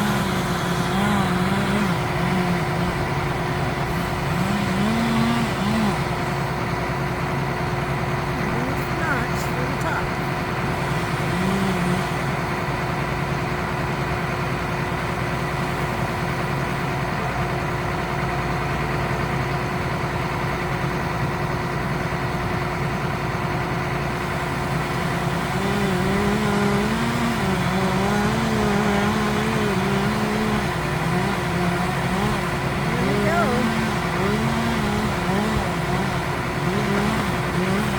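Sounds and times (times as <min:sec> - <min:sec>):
large engine running steadily: 0:00.0 - 0:37.9.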